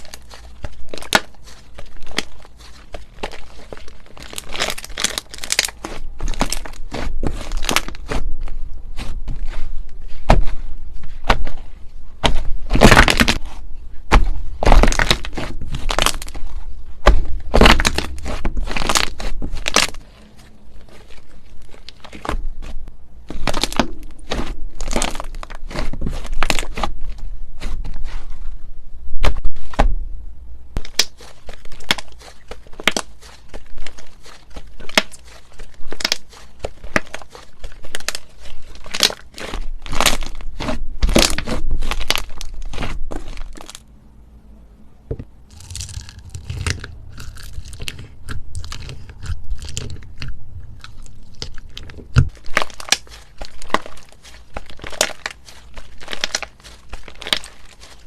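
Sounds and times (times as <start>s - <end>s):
slime crackling and popping: 0.0s - 11.6s, 12.2s - 20.0s, 20.8s - 27.8s, 30.8s - 43.8s, 45.5s - 58.0s.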